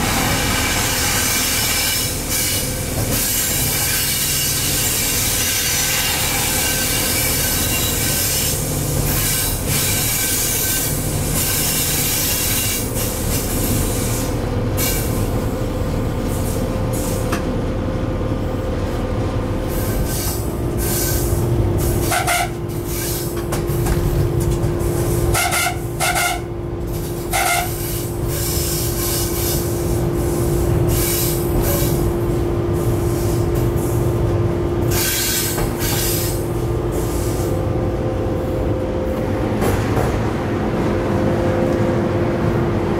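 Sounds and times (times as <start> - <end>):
locomotive whine: 0.0 - 42.9
train wheels on rails: 0.0 - 42.9.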